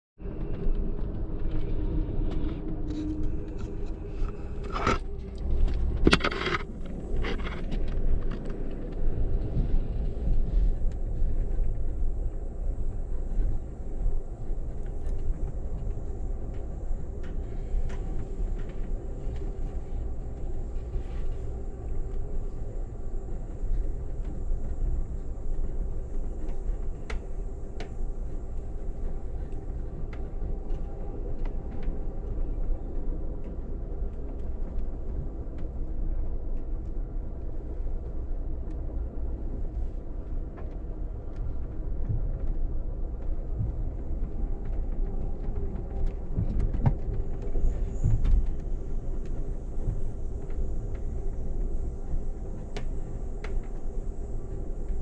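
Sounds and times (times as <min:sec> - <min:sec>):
train rumbling inside coach: 0:00.2 - 0:55.0.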